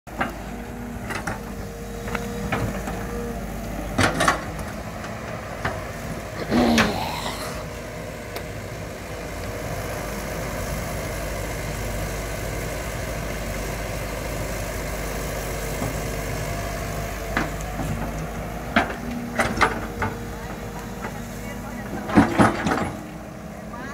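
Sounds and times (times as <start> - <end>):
excavator diesel engine running: 0.1 - 23.9.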